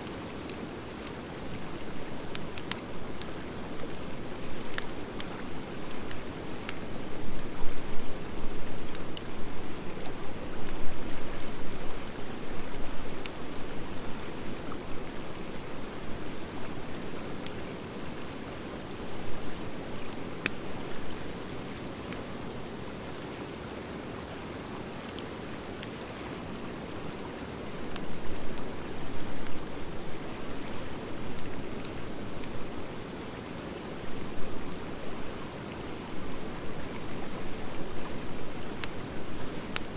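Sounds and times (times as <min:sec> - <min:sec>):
fire crackling and popping: 0:00.0 - 0:10.9, 0:11.5 - 0:24.0, 0:24.7 - 0:39.9.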